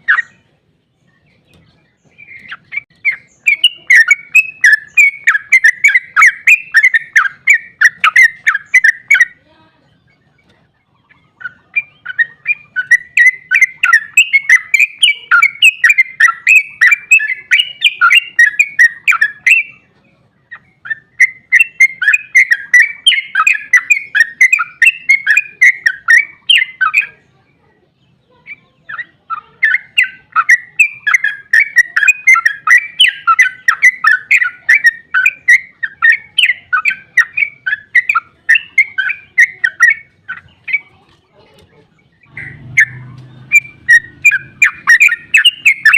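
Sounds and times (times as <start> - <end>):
bird chattering song: 0.0 - 45.9.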